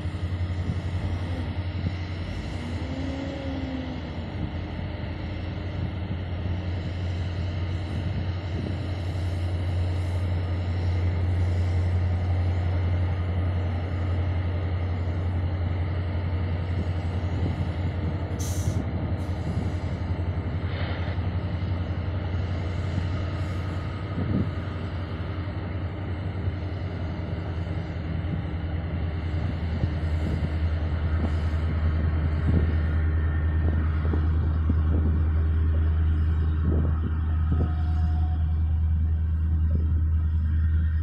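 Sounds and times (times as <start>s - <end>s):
diesel locomotive drone: 0.0s - 41.0s.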